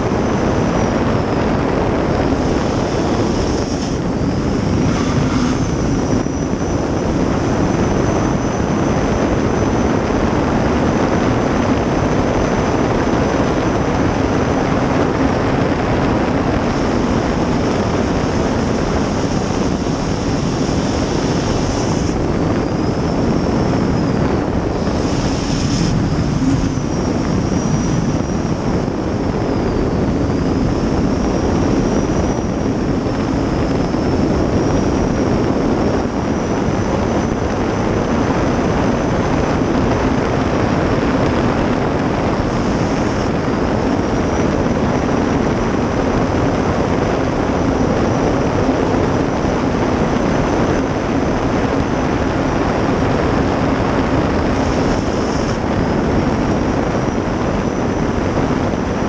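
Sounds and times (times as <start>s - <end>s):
high turbine whine: 0.0s - 59.0s
jet boat turbine exhaust rush: 0.0s - 59.0s.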